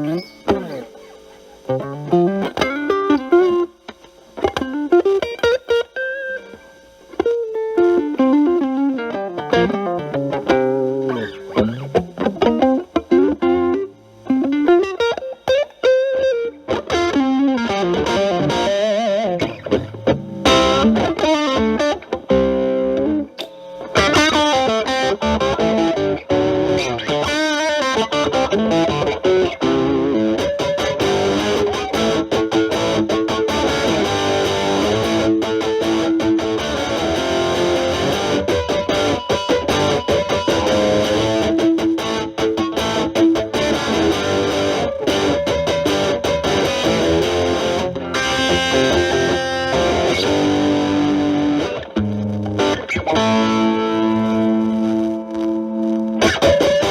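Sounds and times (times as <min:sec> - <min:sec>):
distorted electric guitar lead: 0:00.0 - 0:56.9.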